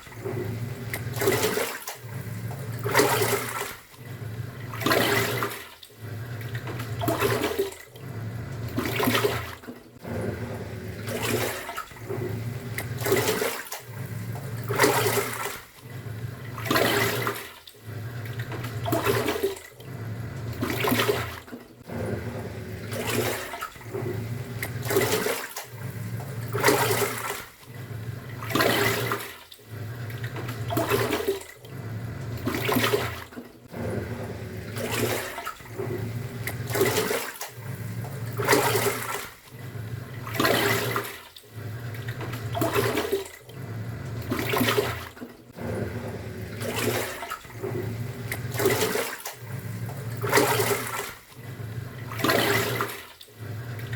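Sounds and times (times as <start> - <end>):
washing machine motor humming: 0.0 - 53.9
water swishing: 0.0 - 53.9.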